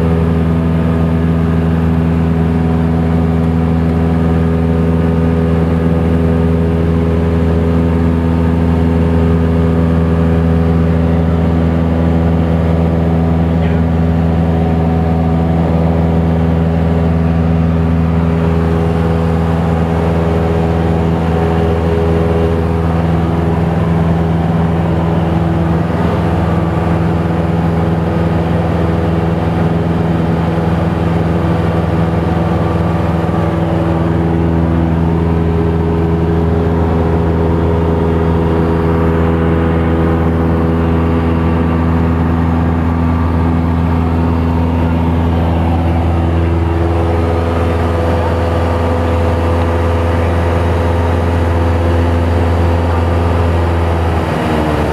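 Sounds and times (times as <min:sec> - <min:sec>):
light aircraft engine droning: 0:00.0 - 0:54.9.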